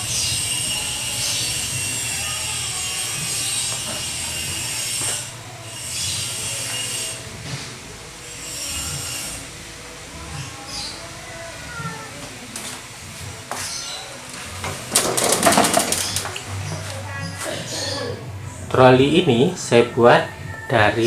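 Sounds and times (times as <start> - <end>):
trolley casters rolling and scraping: 0.0 - 21.0.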